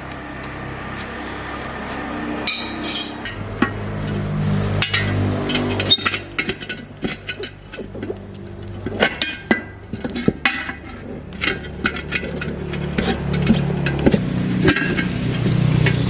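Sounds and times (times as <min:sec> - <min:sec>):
low mechanical hum: 0:00.0 - 0:16.0
metal tools clinking: 0:02.4 - 0:16.0.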